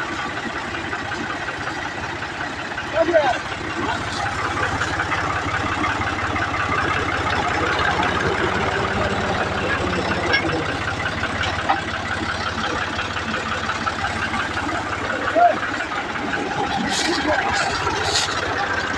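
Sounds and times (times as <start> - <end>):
diesel tractor engine idling: 0.0 - 18.9.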